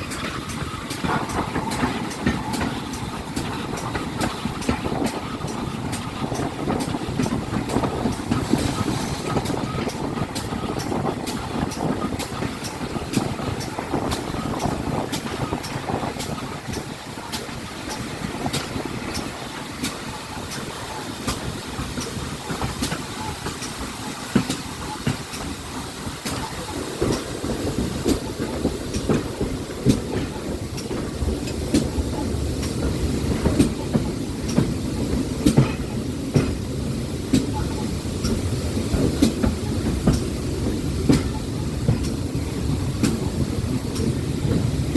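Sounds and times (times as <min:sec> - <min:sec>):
train rumbling: 0:00.0 - 0:44.9
wheels clicking over rails: 0:00.0 - 0:44.9.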